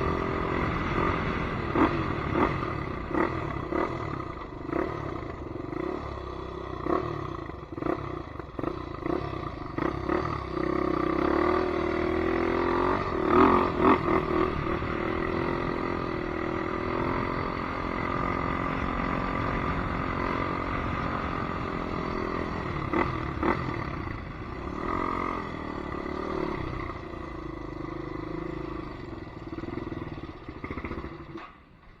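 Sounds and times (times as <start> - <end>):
atv engine revving: 0.0 - 31.5.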